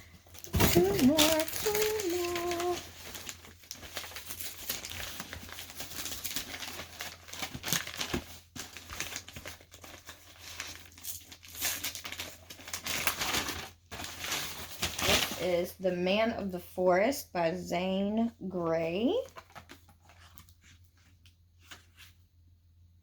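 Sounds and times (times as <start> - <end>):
packing material crinkling: 0.0 - 15.5, 19.1 - 22.2.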